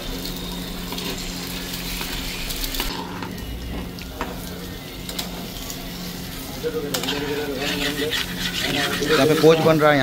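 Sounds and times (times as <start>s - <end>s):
egg sizzling in oil: 0.0s - 10.0s.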